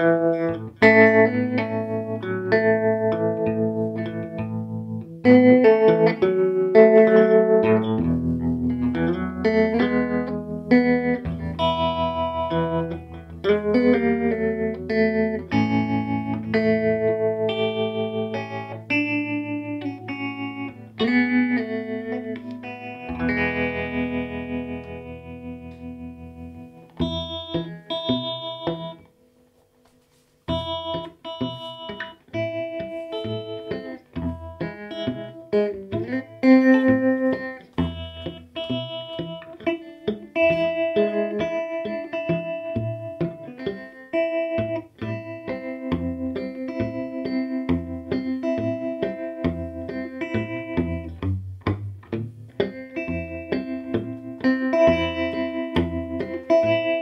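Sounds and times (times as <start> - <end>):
electric guitar with tremolo: 0.0 - 57.0.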